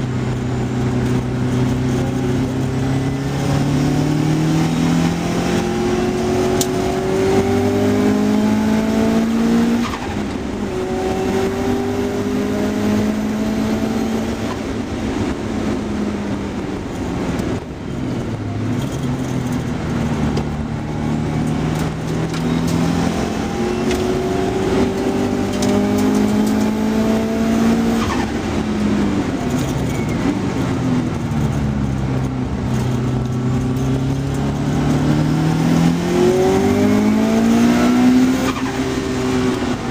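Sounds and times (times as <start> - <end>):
car engine revving hard: 0.0 - 15.8, 19.9 - 31.2, 32.6 - 39.9.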